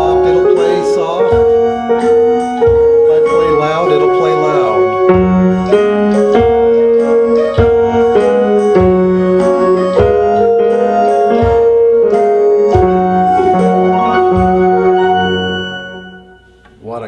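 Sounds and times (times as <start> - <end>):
slow piano melody: 0.0 - 16.9
held bass notes: 0.0 - 17.0.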